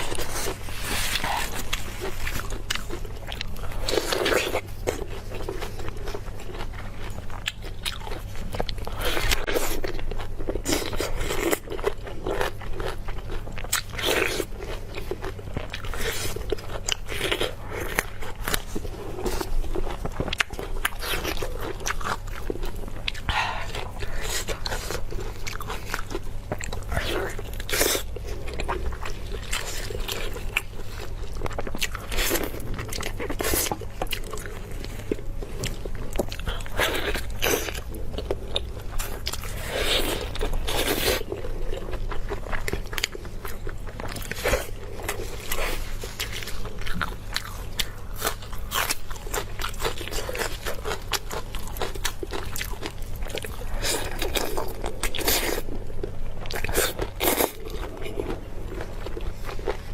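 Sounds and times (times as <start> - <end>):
biting and chewing crunches: 0.0 - 59.9.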